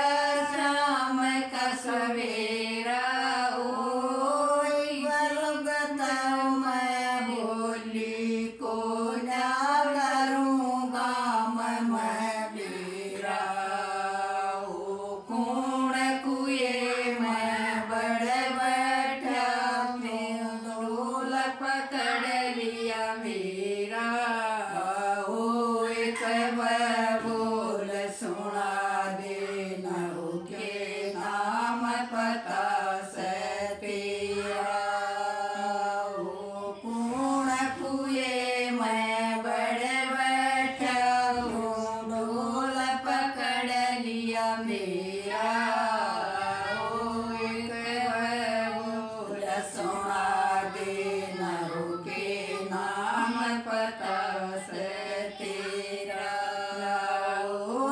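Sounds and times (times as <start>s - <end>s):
women singing folk song together: 0.0s - 57.9s.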